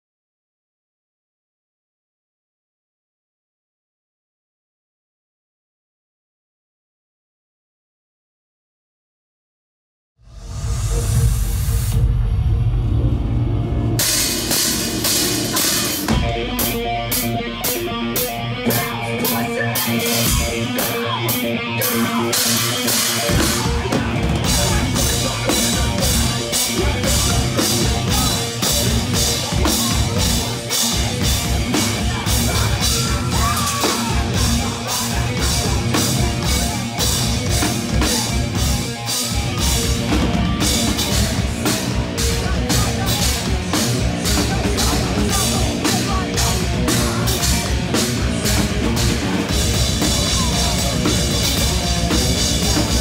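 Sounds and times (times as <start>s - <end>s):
metalcore band playing live: 10.3s - 53.0s.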